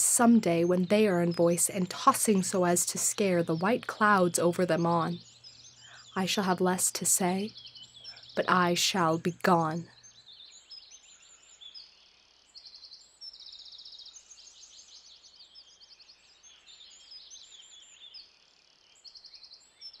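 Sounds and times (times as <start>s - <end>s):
small birds chirping and trilling: 0.0s - 20.0s.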